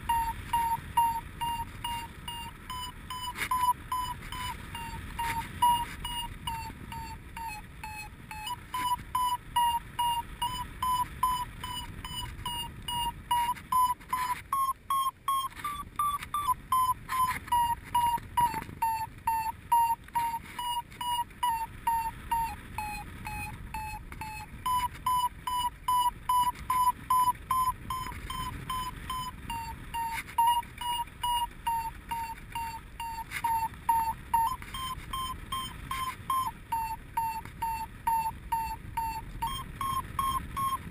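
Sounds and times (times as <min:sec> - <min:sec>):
variometer beeping: 0:00.0 - 0:40.9.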